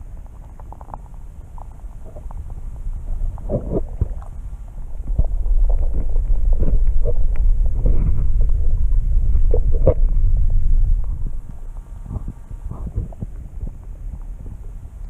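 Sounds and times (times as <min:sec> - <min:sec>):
bubbly gurgles: 0:00.0 - 0:15.0
underwater water rumble: 0:00.0 - 0:15.0.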